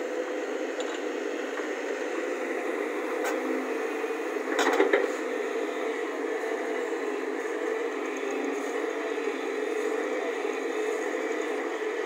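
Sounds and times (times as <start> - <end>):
excavator running: 0.0 - 12.0.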